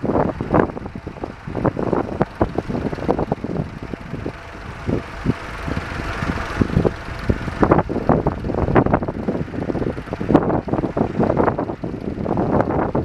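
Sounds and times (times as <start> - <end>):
tractor engine running: 0.0 - 13.0
wind buffeting microphone: 0.0 - 13.0.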